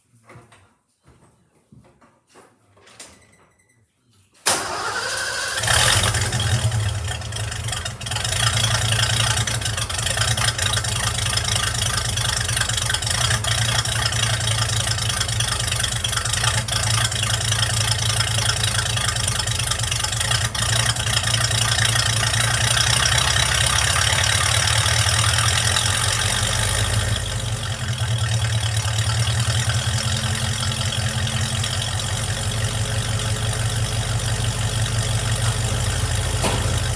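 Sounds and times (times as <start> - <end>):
truck engine starting and running: 4.4 - 36.9.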